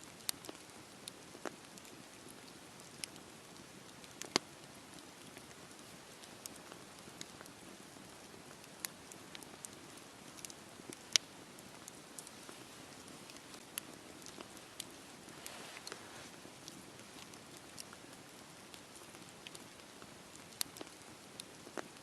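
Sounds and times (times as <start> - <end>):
campfire hissing: 0.1 - 22.0
wood crackling and popping: 0.1 - 22.0.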